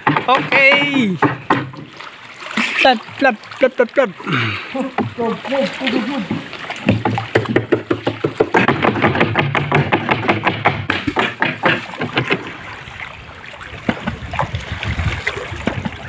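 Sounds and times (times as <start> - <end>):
wooden pole slapping water: 0.0 - 16.0.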